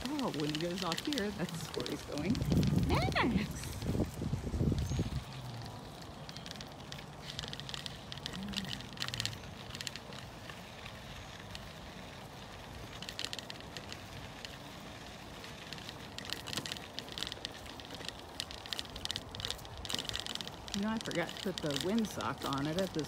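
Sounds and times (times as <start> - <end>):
bicycle tyres crackling on grit: 0.0 - 23.0
wind buffeting microphone: 0.0 - 23.0.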